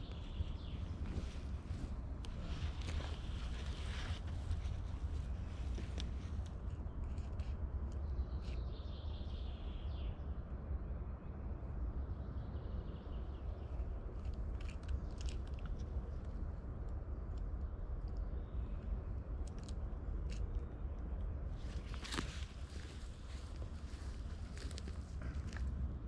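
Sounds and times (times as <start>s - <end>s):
low rumble of wind: 0.0s - 26.0s.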